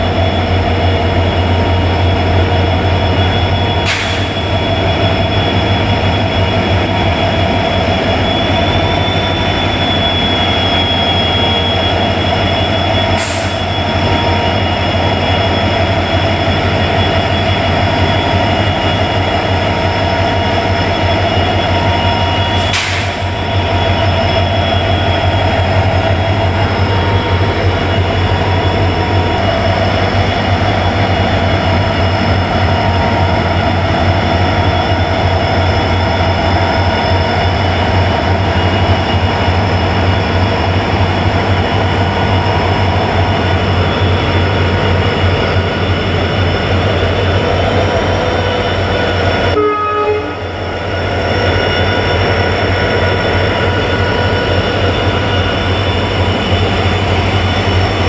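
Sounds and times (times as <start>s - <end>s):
diesel locomotive engines humming: 0.0s - 58.0s
locomotive whine: 0.0s - 58.0s.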